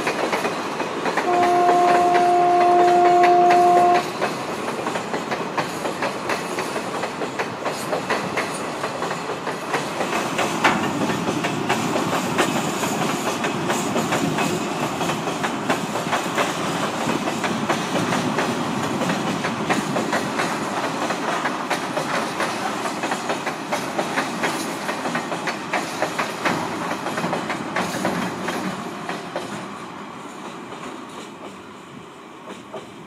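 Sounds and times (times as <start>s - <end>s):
train wheels clicking over rail joints: 0.0s - 33.0s.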